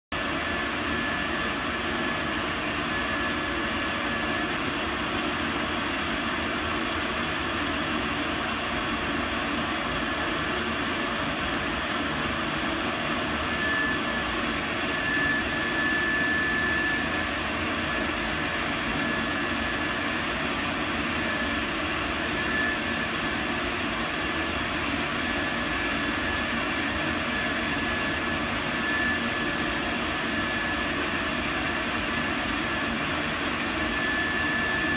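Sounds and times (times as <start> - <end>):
laser engraver rushing and whining: 0.2 - 34.9.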